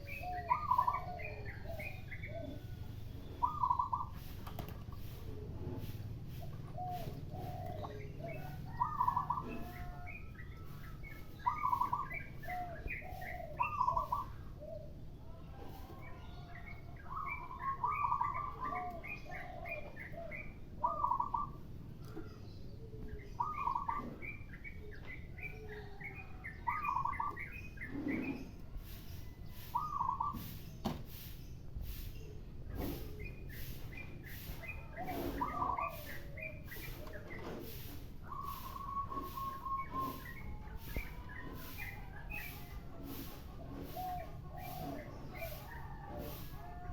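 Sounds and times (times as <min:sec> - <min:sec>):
birds chirping: 0:00.0 - 0:46.9
dove calls: 0:00.0 - 0:46.9.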